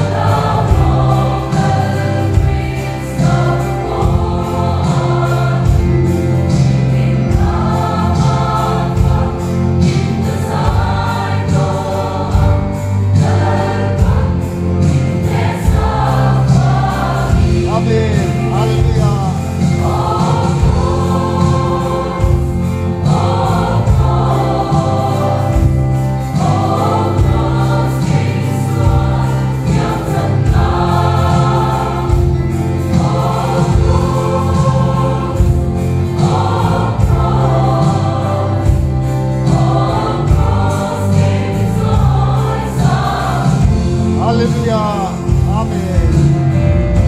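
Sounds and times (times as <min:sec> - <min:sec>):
choir singing a hymn: 0:00.0 - 0:47.0.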